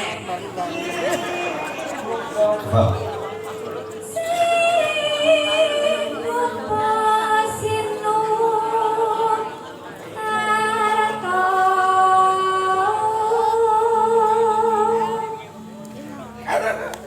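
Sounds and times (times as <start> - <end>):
woman singing unaccompanied: 0.0 - 2.4, 3.2 - 15.8.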